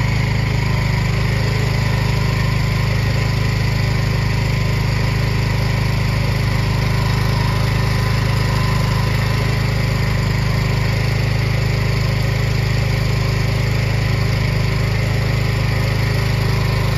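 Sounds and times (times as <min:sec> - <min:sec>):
engine idling: 0:00.0 - 0:16.9.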